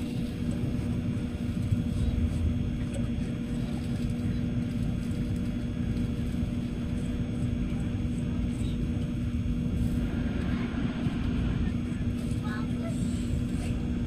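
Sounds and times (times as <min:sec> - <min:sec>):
train cabin low rumble: 0:00.0 - 0:14.0.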